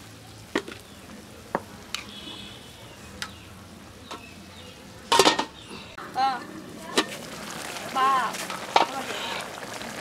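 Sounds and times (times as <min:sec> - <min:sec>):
curry sizzling: 0:00.0 - 0:10.0.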